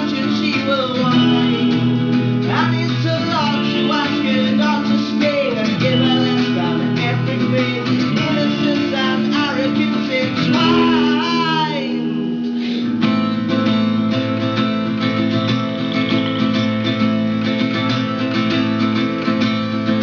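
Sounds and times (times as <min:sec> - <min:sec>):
live band music: 0:00.0 - 0:18.3
strummed acoustic guitars: 0:00.0 - 0:20.0.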